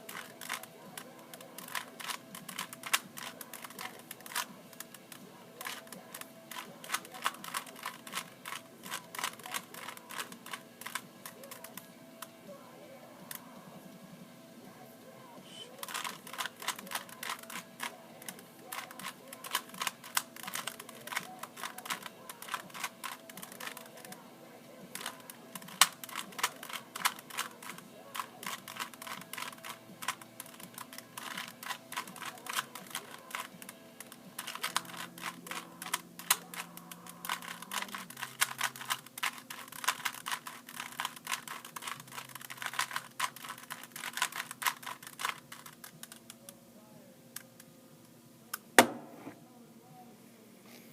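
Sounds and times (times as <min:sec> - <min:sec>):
puzzle cube clicking and rattling: 0:00.0 - 0:11.9, 0:15.7 - 0:24.2, 0:24.9 - 0:46.4.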